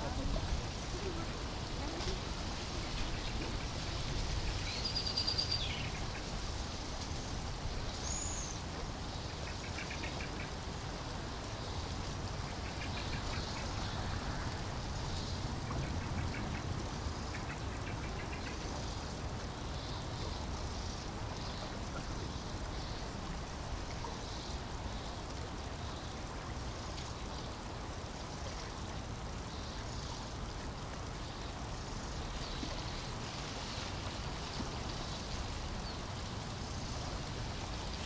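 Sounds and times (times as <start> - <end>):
running water rushing: 0.0 - 38.0.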